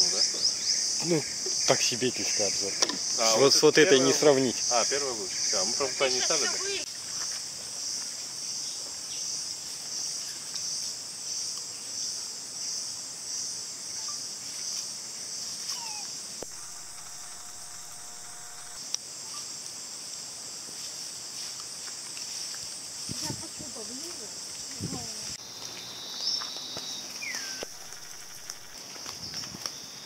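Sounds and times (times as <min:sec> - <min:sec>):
high insect drone: 0:00.0 - 0:21.5, 0:22.2 - 0:30.0.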